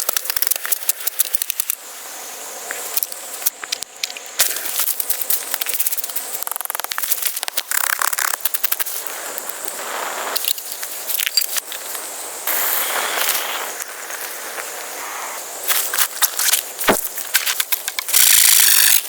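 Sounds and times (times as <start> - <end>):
crackling and clicking: 0.0 - 1.8, 2.7 - 15.0, 15.6 - 19.0.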